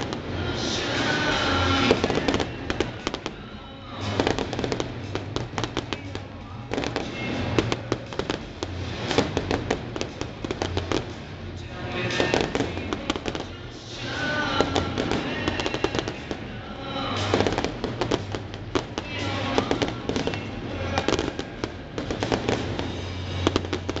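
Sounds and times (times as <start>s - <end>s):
fireworks crackling: 0.0s - 24.0s
music from stadium speakers: 0.0s - 24.0s.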